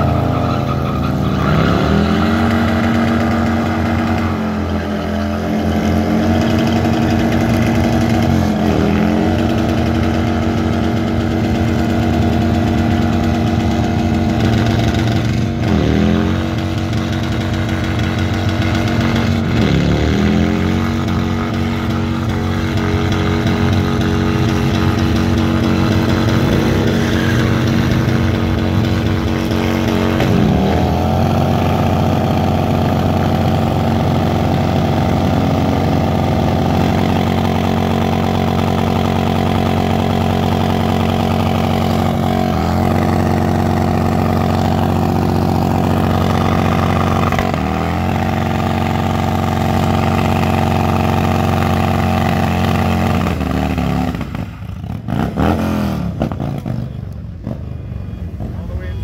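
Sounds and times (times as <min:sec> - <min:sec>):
rear tire spinning: 0:00.0 - 0:58.7
motorcycle engine revving: 0:00.0 - 0:59.0.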